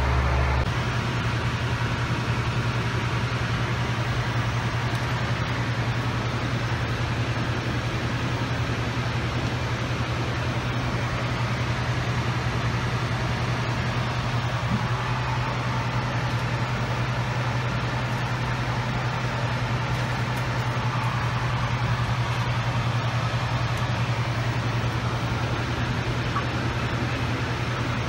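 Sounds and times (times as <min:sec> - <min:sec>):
low cabin hum: 0:00.0 - 0:28.0.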